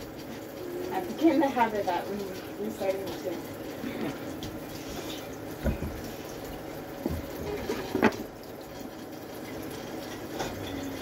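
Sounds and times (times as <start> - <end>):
water running from tap: 0.0 - 11.0.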